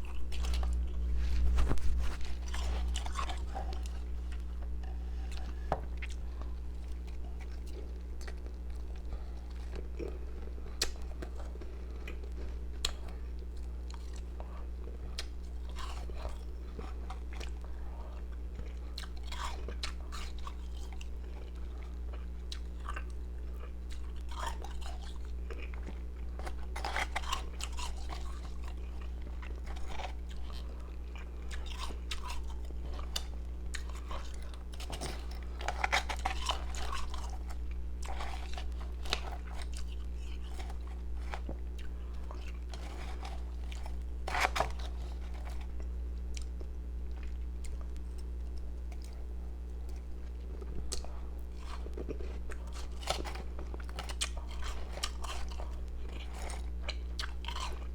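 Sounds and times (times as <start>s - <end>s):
person chewing and crunching ice: 0.0s - 57.9s
steady low hum: 0.0s - 57.9s.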